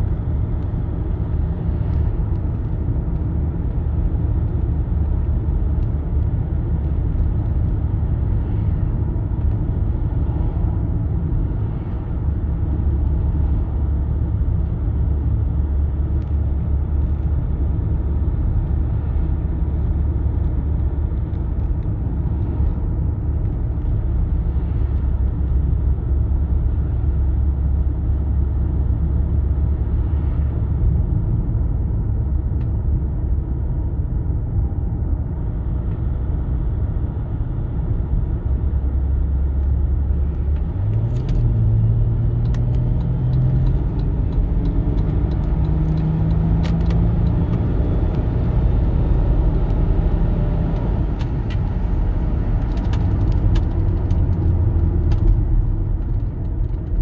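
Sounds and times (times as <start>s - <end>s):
low engine and road drone: 0.0s - 57.0s.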